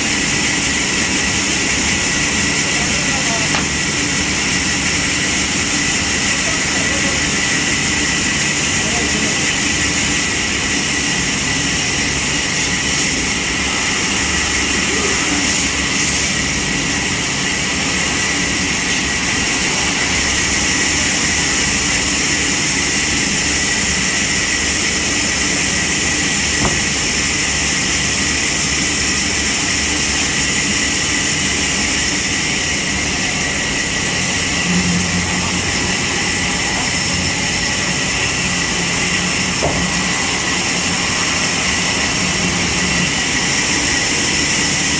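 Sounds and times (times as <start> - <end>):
constant high whine: 0.0 - 44.9
sawmill machinery running: 0.0 - 44.9.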